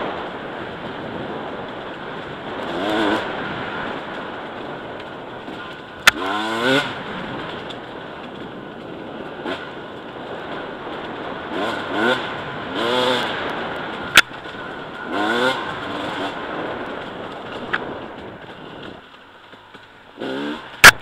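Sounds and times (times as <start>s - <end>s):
motorcycle engine revving: 0.0s - 19.0s, 19.7s - 21.0s.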